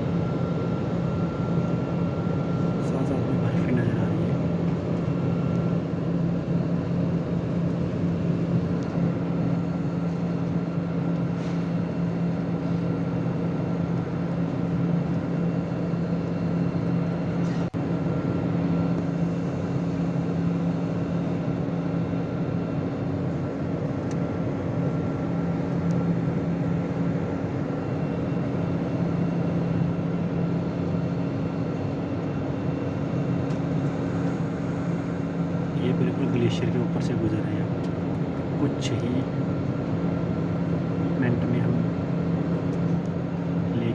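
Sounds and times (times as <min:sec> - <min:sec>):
constant low hum: 0:00.0 - 0:43.9
jet engines and airflow rush: 0:00.0 - 0:43.9.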